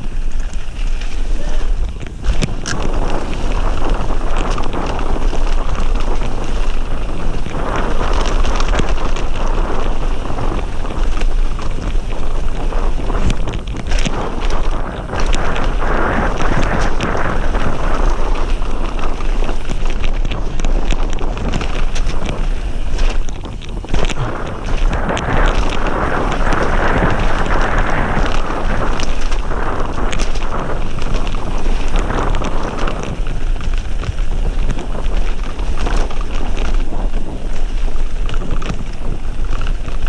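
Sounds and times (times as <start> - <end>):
bike rattling over bumps: 0.0 - 40.0
bike tyres rolling over gravel: 0.0 - 40.0
wind on microphone: 0.0 - 40.0.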